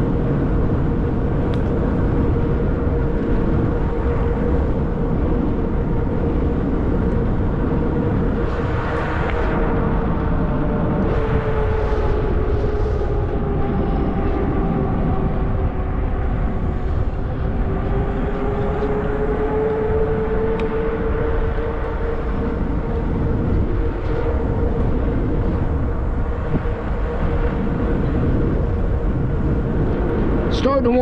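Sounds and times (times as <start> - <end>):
electric bike motor whine: 0.0 - 31.0
wind rushing over microphone: 0.0 - 31.0.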